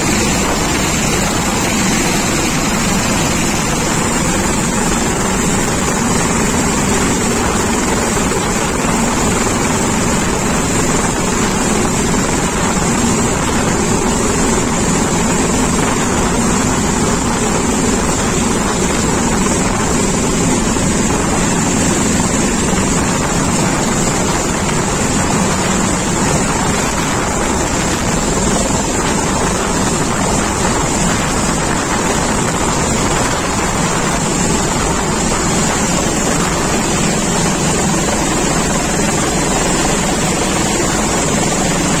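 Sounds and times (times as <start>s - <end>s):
downwash buffeting microphone: 0.0s - 42.0s
helicopter rotor and engine: 0.0s - 42.0s.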